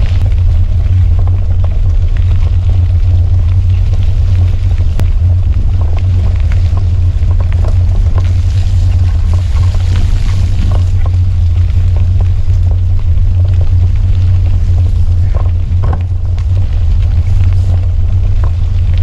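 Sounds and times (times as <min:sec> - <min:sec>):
bike clicks and rattles: 0:00.0 - 0:19.0
wind buffeting camera: 0:00.0 - 0:19.0.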